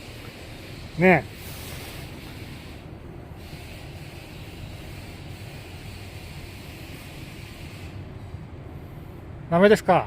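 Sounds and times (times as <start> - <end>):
faint hiss: 0.0 - 9.7.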